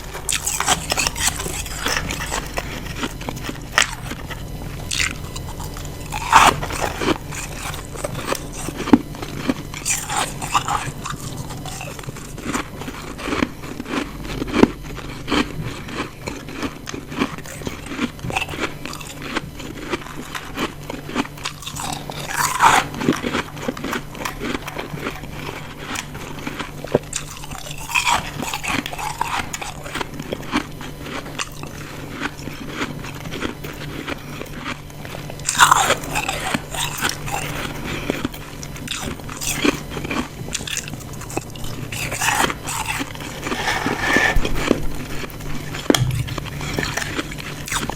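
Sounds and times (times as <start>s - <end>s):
chewing ice crunches: 0.0s - 47.9s.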